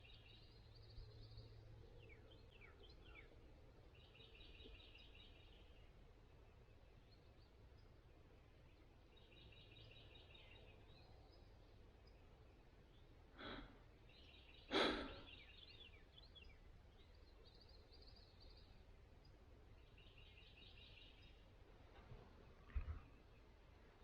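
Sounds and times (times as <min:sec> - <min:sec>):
faint songbirds trilling: 0:00.0 - 0:24.0.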